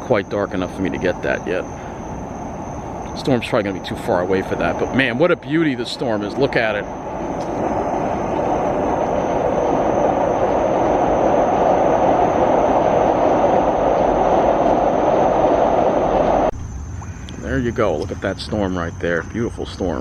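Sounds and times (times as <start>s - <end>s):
passing train rumble: 0.0s - 20.0s.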